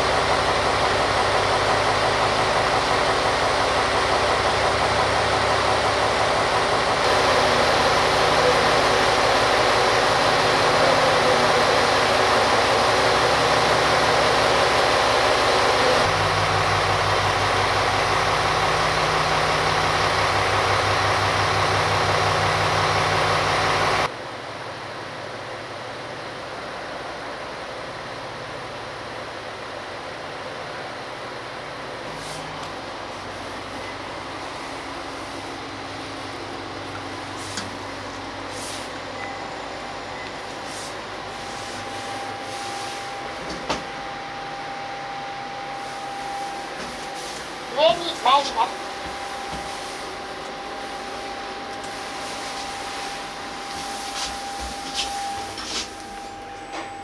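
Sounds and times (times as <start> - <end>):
diesel railcar engine idling: 0.0 - 57.0.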